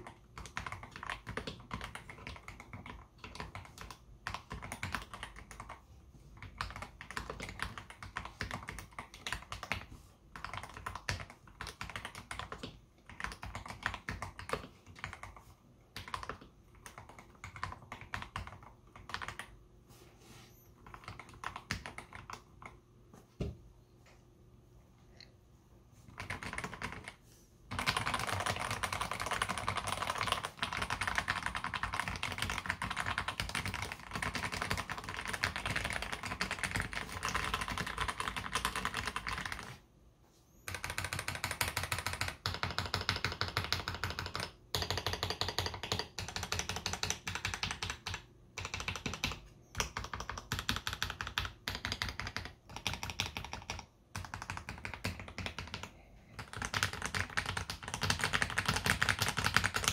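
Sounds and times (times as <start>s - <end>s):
mechanical keyboard typing: 0.0s - 5.8s, 6.4s - 19.6s, 20.8s - 22.8s, 26.1s - 39.8s, 40.7s - 59.9s.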